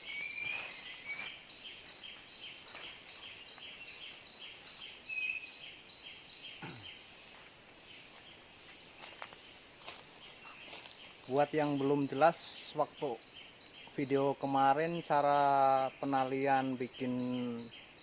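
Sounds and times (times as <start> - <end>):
high bird chirp: 0.0 - 7.0, 9.9 - 17.9.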